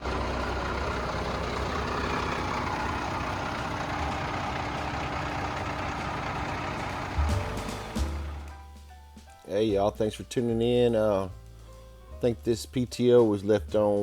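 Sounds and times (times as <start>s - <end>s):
diesel truck engine rumbling: 0.0s - 12.7s.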